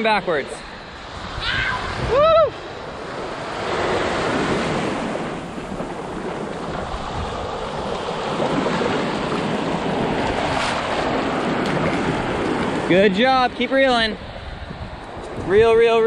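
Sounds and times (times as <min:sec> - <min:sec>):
ocean surf washing onto beach: 0:00.0 - 0:16.0
wind on microphone: 0:00.0 - 0:16.0.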